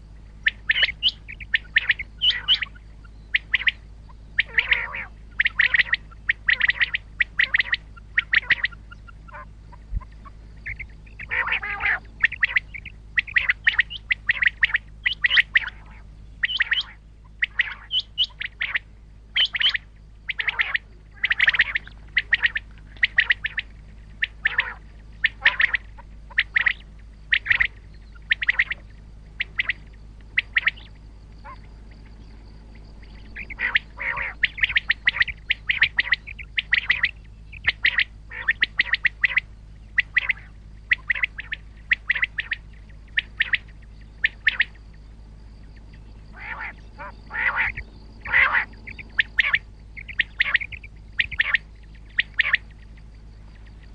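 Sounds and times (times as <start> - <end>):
harsh low bird call: 0.0 - 53.9
low steady hum: 0.0 - 53.9
quail calling: 0.0 - 53.9.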